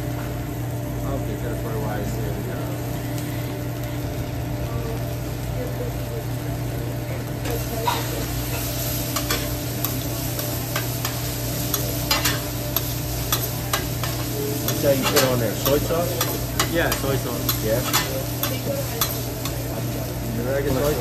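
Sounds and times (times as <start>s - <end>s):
rice sizzling on griddle: 0.0s - 21.0s.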